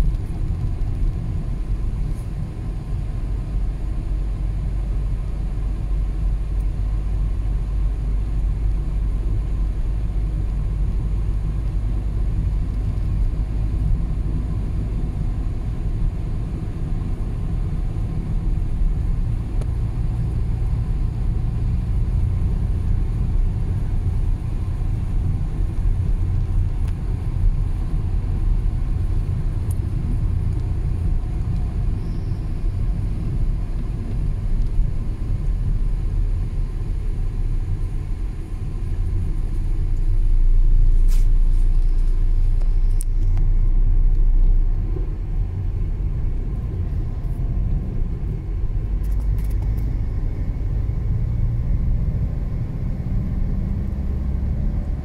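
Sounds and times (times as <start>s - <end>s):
car tyre and engine rumble: 0.0s - 55.0s.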